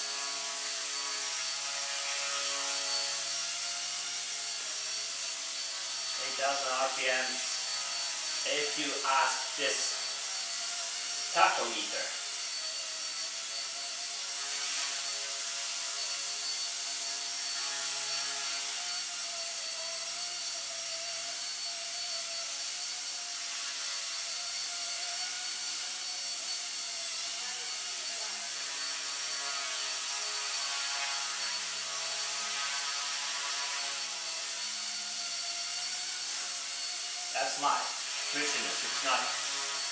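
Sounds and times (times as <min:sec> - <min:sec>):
rc helicopter motor and rotor whine: 0:00.0 - 0:39.9.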